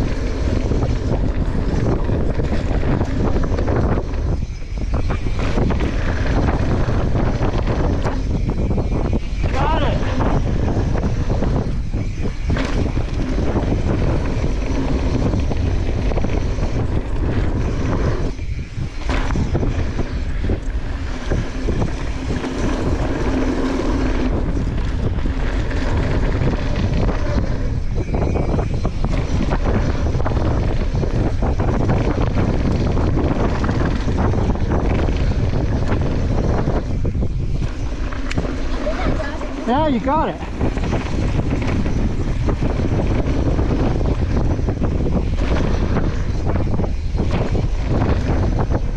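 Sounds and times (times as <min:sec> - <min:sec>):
bike tyres rumbling and rattling: 0:00.0 - 0:48.9
wind rushing over microphone: 0:00.0 - 0:48.9.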